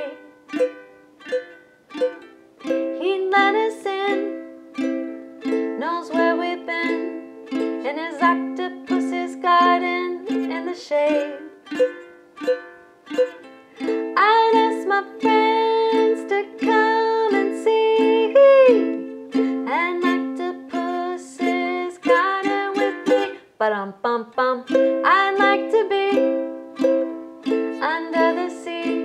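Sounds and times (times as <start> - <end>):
ukulele strumming: 0.0 - 23.6, 24.4 - 29.0.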